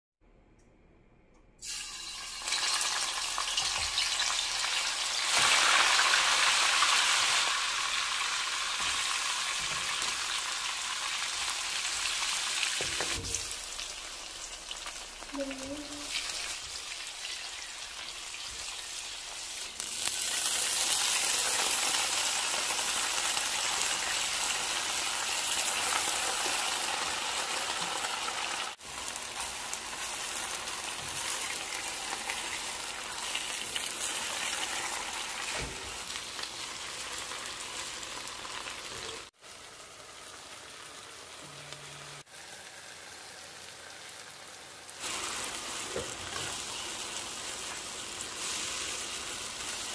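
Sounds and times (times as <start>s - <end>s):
oil sizzling in wok: 1.6s - 49.9s.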